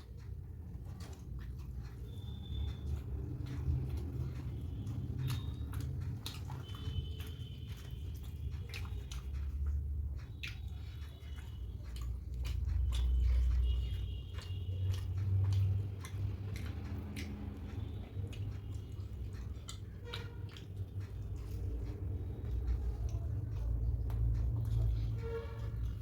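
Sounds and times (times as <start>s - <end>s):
chewing: 0.0s - 26.0s
wet mouth clicks: 0.0s - 26.0s.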